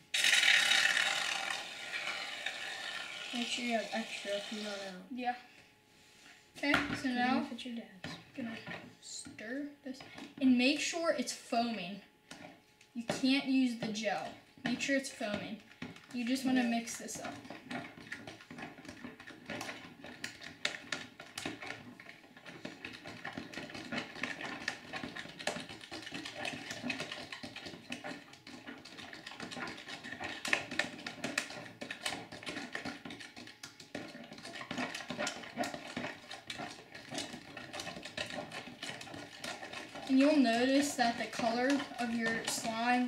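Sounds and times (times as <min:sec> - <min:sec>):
spoon stirring slime in plastic tub: 0:01.6 - 0:05.0, 0:06.6 - 0:43.0.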